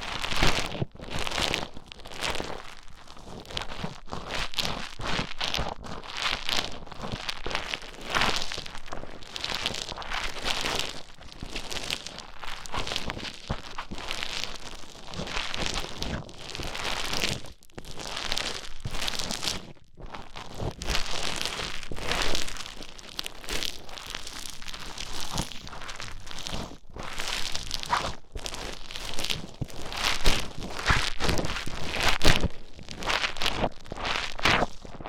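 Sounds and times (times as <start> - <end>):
bead foam squished crackling: 0.0 - 3.8, 7.2 - 35.0.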